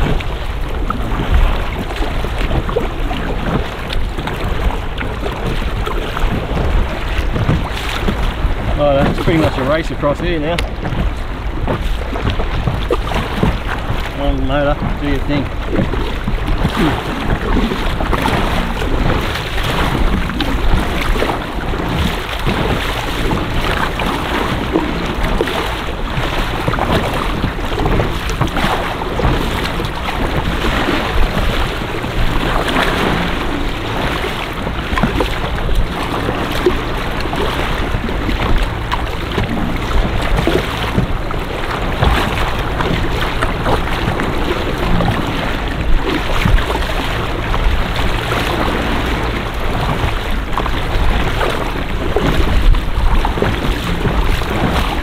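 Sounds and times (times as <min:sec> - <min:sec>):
water slapping against hull: 0:00.0 - 0:55.0
wind buffeting microphone: 0:00.0 - 0:55.0.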